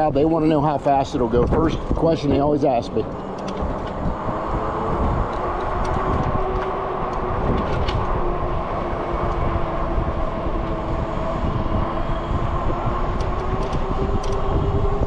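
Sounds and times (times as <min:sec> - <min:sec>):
tyre and road noise: 0:00.0 - 0:15.0
wind buffeting microphone: 0:00.0 - 0:15.0.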